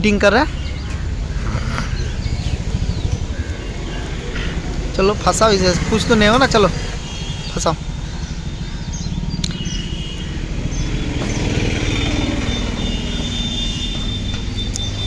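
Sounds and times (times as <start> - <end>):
vehicle engine rumbling past: 0.5 - 15.0.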